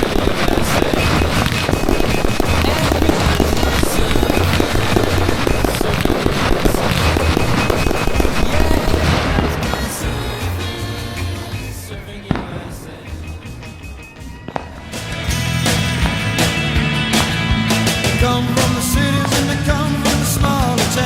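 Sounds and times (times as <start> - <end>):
fireworks bursting: 0.0 - 21.0
music soundtrack: 0.0 - 21.0.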